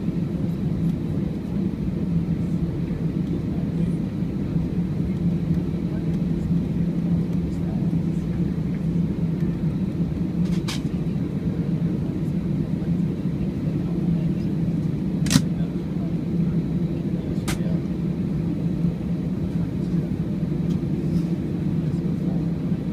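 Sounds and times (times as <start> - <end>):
airliner cabin drone: 0.0 - 22.9.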